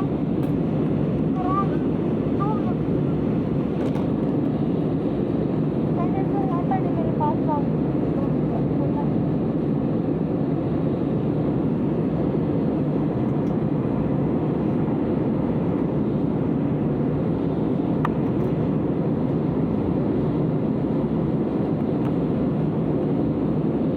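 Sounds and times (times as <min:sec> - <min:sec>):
airliner engine rumble: 0:00.0 - 0:23.9.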